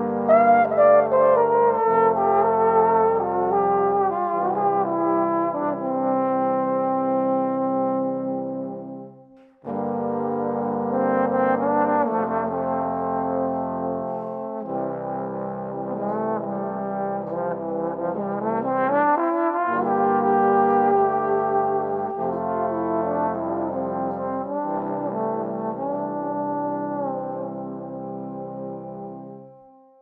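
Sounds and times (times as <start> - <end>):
trombone ensemble playing: 0.0 - 9.1, 9.7 - 29.5.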